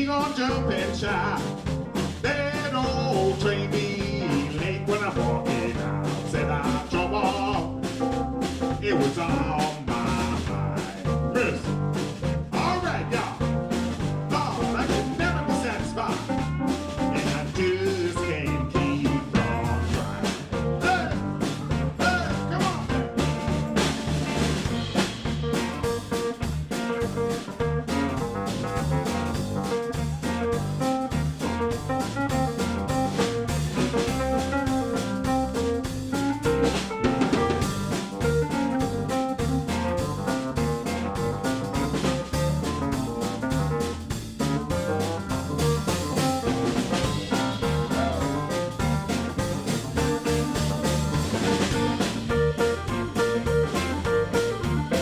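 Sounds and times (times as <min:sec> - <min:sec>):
bass: 0:00.0 - 0:55.0
drum kit beat: 0:00.0 - 0:55.0
keyboards: 0:00.0 - 0:55.0.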